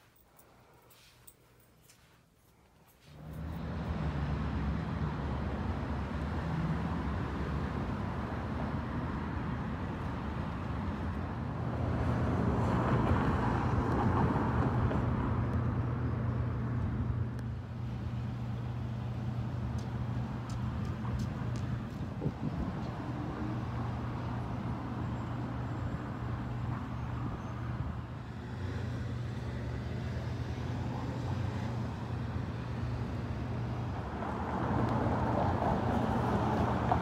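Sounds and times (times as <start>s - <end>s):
car passing: 3.0s - 37.0s
vehicle engine humming: 3.0s - 37.0s.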